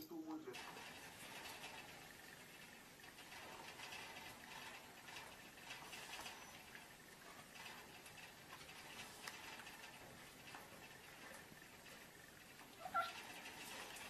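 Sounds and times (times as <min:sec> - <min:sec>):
cats scuffling: 0:00.5 - 0:14.0.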